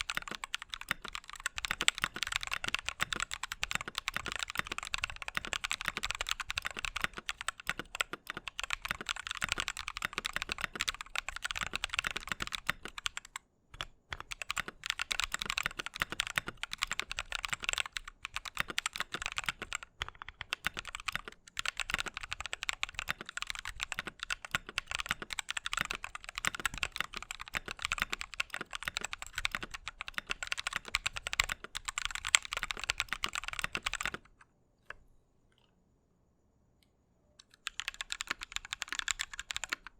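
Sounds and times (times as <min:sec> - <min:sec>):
mechanical keyboard typing: 0:00.0 - 0:34.4, 0:37.4 - 0:39.9.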